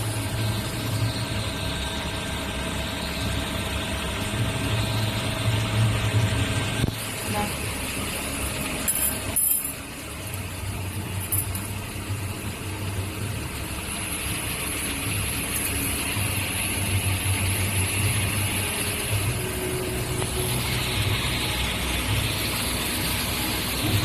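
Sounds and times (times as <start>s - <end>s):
machine humming and hissing: 0.0s - 24.0s.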